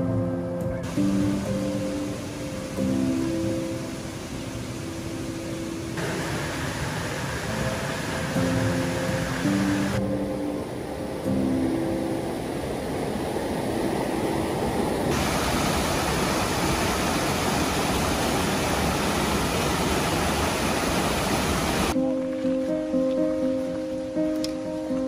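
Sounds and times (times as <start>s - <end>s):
stream rushing over rocks: 0.8s - 10.0s, 11.3s - 22.4s.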